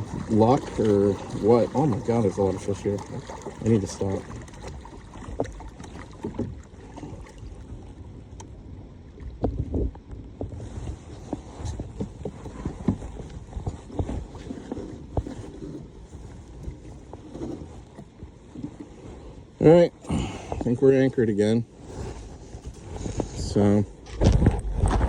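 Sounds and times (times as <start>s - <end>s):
knocks and bumps on a kayak: 0.0s - 8.6s, 9.2s - 25.0s
low rumbling water: 0.0s - 25.0s.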